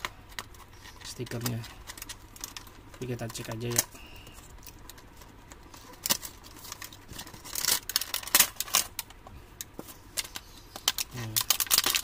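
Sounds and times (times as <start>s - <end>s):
packaging clicks: 0.0s - 9.2s, 10.2s - 12.0s
plastic packaging crinkling: 0.0s - 9.2s, 9.8s - 12.0s.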